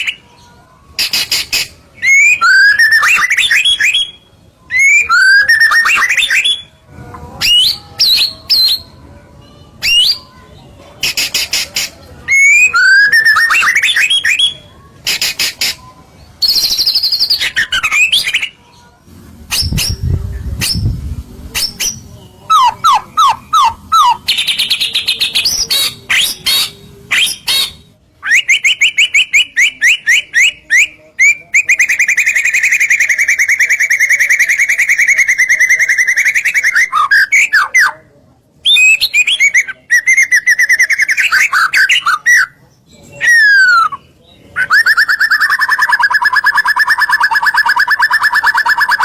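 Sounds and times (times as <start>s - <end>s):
songbird singing with rapid trills: 0.0s - 6.8s, 7.4s - 38.0s, 38.6s - 49.0s.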